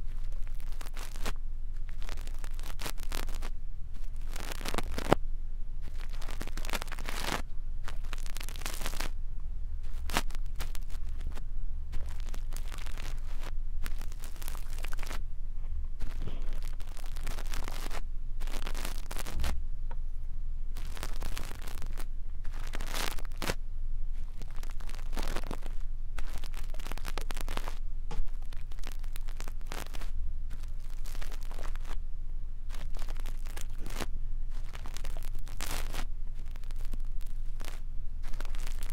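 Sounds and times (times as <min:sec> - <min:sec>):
brush scratching on microphone: 0:00.0 - 0:05.2, 0:05.8 - 0:09.2, 0:09.8 - 0:15.2, 0:16.0 - 0:19.6, 0:20.8 - 0:23.6, 0:24.2 - 0:32.0, 0:32.7 - 0:38.9
low rumble: 0:00.0 - 0:38.9.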